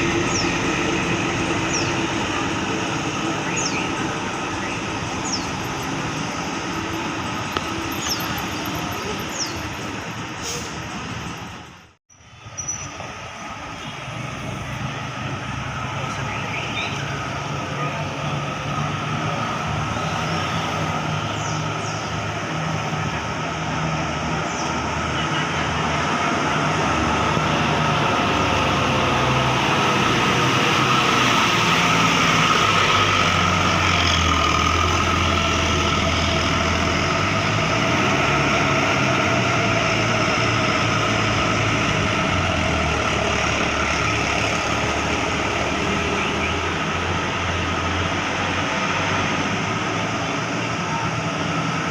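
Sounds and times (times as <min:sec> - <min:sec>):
bus engine pulling out: 0:00.0 - 0:51.9.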